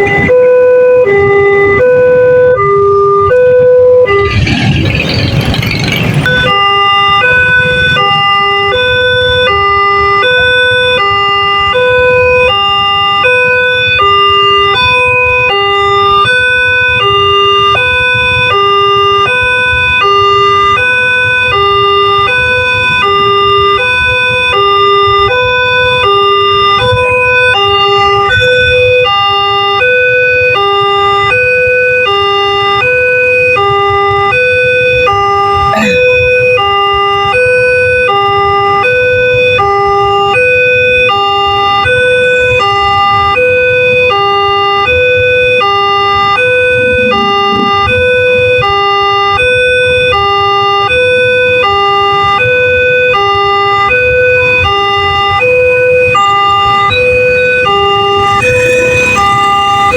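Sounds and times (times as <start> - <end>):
two-tone level crossing siren: 0.0 - 59.9.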